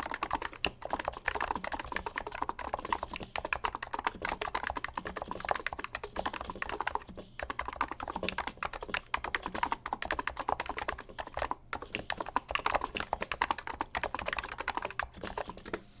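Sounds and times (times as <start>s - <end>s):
fast keyboard typing: 0.0s - 15.8s.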